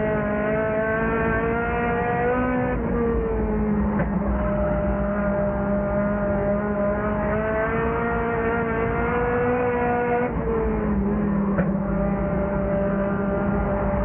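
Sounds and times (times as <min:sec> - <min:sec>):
race car engine under power: 0:00.0 - 0:14.0.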